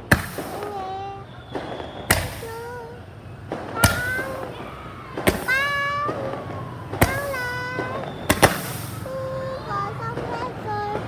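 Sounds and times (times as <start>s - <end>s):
firework bangs: 0.0s - 11.0s
high whistling firework cry: 0.0s - 11.0s.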